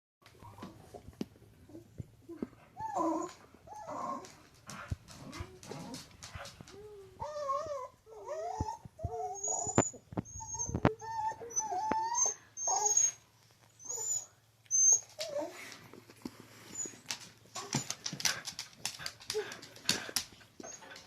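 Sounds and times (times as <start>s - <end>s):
dog whining and moaning: 1.7s - 4.5s, 5.1s - 15.8s, 16.6s - 21.0s.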